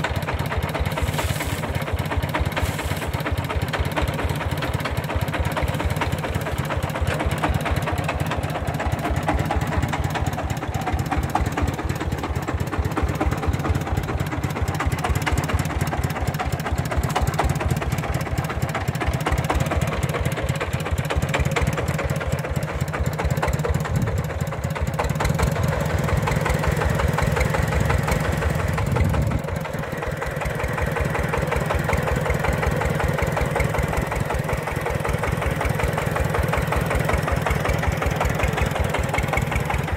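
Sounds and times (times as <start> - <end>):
old diesel engine running: 0.0 - 39.9.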